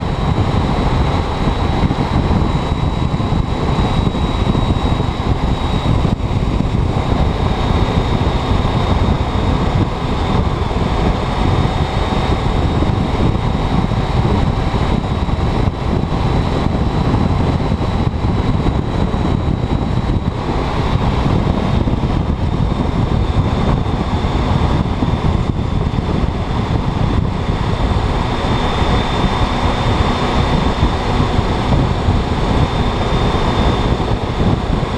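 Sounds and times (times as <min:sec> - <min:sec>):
motorcycle engine running: 0:00.0 - 0:34.9
wind rushing over microphone: 0:00.0 - 0:34.9.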